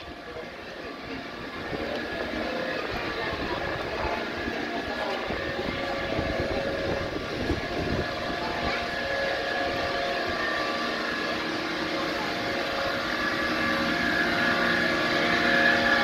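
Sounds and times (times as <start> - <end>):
mechanical drone with held tones: 0.0 - 16.0.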